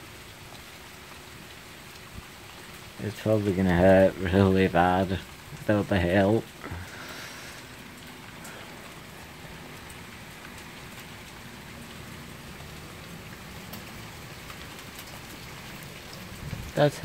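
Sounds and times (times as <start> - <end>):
steady rain falling: 0.0 - 17.0
sharp rain drop ticks: 0.5 - 17.0.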